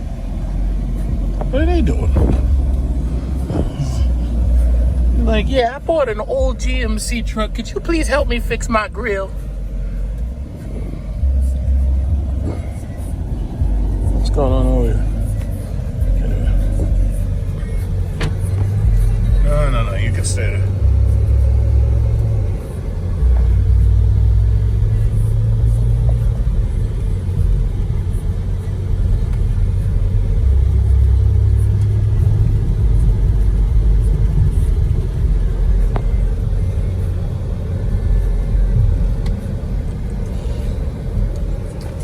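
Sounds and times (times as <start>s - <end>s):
low rumble of a car: 0.0s - 42.0s.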